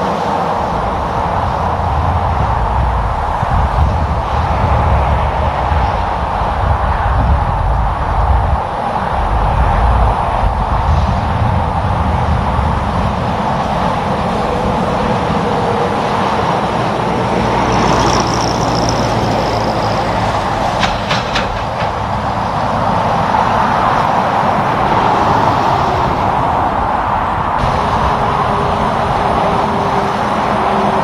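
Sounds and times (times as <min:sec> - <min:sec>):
highway traffic: 0:00.0 - 0:31.0
semi truck engine: 0:00.0 - 0:31.0
high whine: 0:00.6 - 0:31.0.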